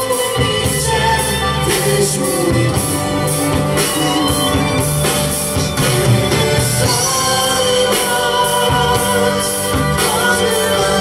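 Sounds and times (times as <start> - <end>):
band with strings saxophone and drums: 0.0 - 11.0
choir singing: 0.0 - 11.0.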